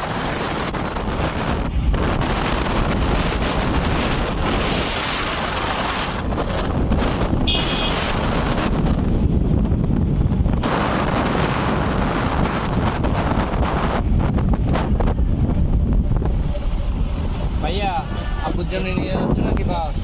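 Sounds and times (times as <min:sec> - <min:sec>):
motorcycle engine and road noise: 0:00.0 - 0:20.0
wind buffeting microphone: 0:00.0 - 0:20.0.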